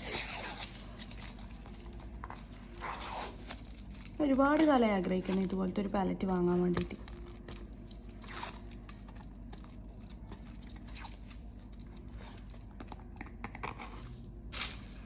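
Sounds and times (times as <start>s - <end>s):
plastic film crackling: 0.0s - 15.0s.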